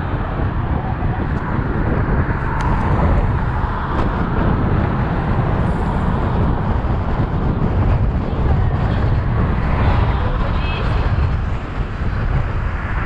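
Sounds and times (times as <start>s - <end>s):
road traffic noise: 0.0s - 13.0s
wind rumble on microphone: 0.0s - 13.0s.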